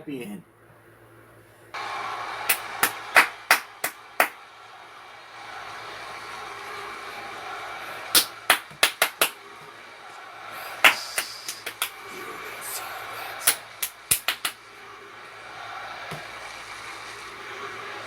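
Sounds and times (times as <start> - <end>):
large arena crowd noise: 1.7 - 18.0
hand claps in chant rhythm: 1.8 - 4.8, 5.4 - 18.0.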